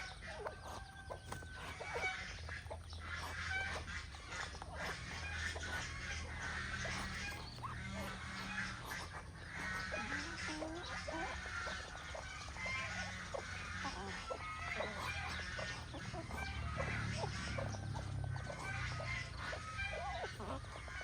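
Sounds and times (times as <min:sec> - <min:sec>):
chicks peeping: 0:00.0 - 0:21.0
hen clucking: 0:00.0 - 0:21.0.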